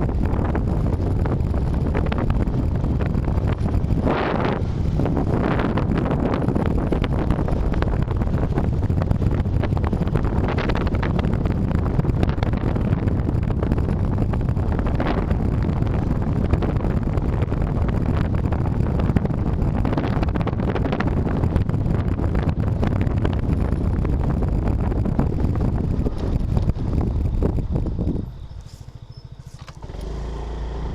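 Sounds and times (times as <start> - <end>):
vehicle running noise: 0.0 - 30.9
wind on microphone: 0.0 - 30.9.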